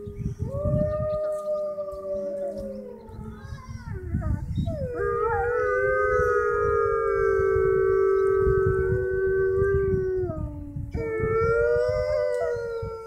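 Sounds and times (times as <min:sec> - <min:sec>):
wolves howling in chorus: 0:00.0 - 0:13.0.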